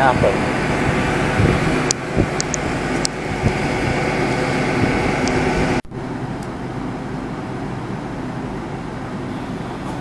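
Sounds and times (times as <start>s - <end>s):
diesel train engine idling: 0.0s - 10.0s.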